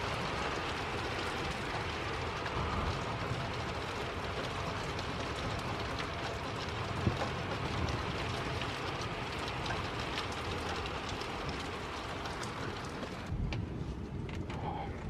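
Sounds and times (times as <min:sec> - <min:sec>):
continuous low rumble: 0:00.0 - 0:15.0
steady rain falling: 0:00.0 - 0:15.0.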